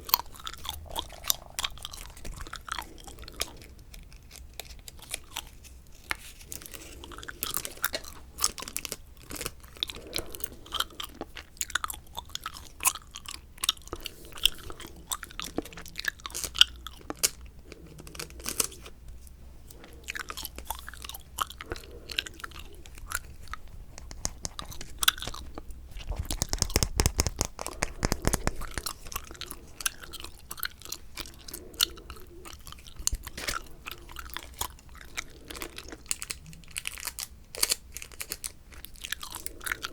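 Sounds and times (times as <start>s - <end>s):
bubble gum chewing: 0.0s - 39.9s.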